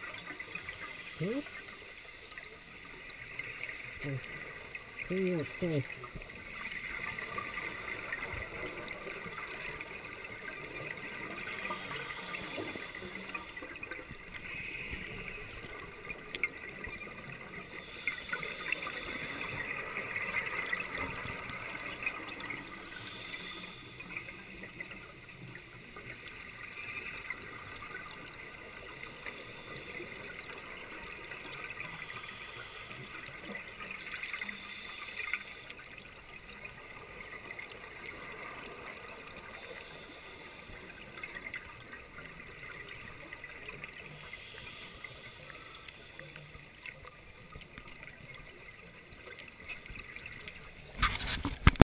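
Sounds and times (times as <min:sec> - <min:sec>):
underwater bubbling and gurgling: 0:00.0 - 0:51.9.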